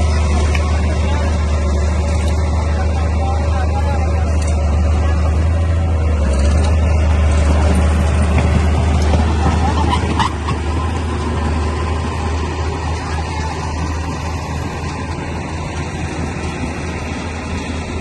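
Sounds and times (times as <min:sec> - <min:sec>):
bulldozer diesel engine: 0:00.0 - 0:18.0.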